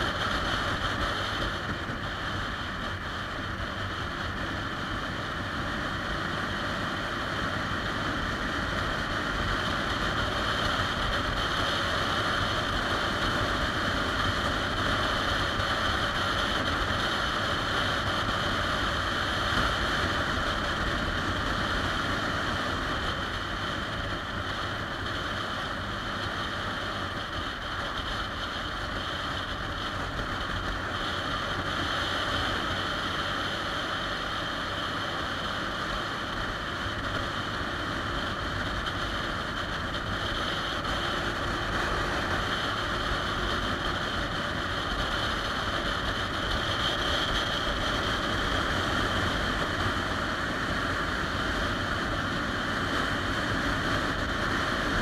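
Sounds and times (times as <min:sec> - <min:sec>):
motorcycle engine cruising: 0:00.0 - 0:55.0
wind rush on microphone: 0:00.0 - 0:55.0.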